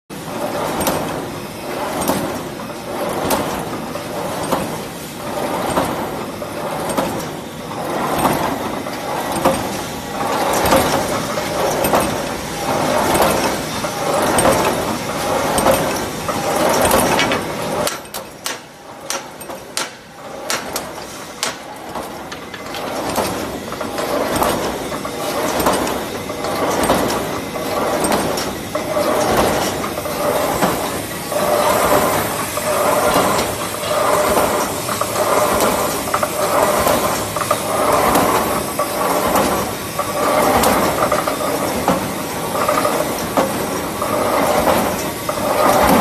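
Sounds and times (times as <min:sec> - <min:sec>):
wire mesh machine running: 0:00.1 - 0:46.0.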